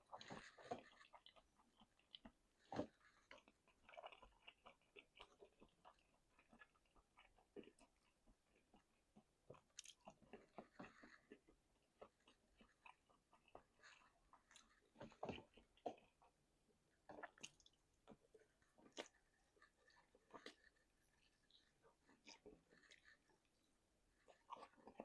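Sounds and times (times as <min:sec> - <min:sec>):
chewing and biting chicken: 0:00.0 - 0:25.0.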